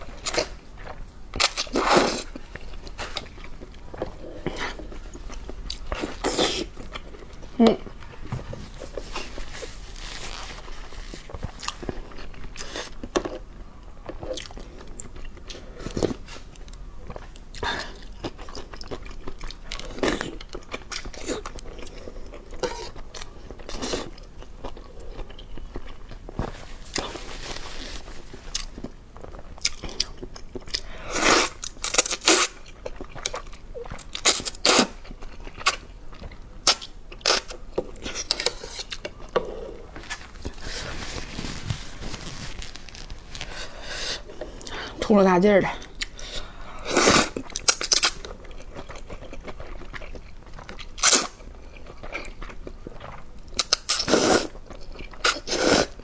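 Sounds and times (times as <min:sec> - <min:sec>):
person chewing and crunching food: 0:00.0 - 0:45.1, 0:45.7 - 0:56.0.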